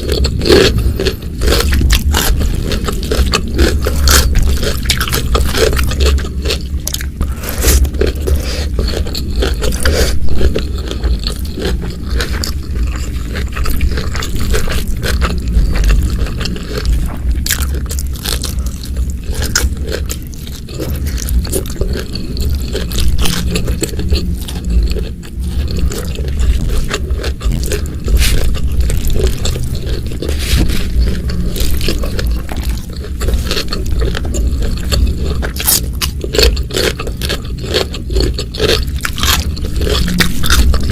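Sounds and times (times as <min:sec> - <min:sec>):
person chewing and crunching food: 0:00.0 - 0:40.9.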